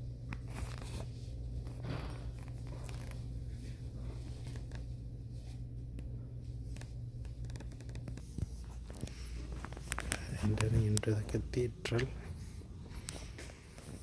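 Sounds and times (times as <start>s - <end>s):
low hum: 0.0s - 14.0s
faint scratching and rustling: 0.4s - 14.0s.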